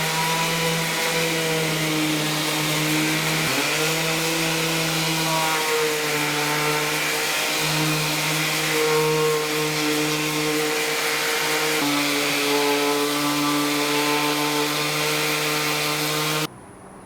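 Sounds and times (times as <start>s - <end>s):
electric power sander: 0.0s - 16.5s.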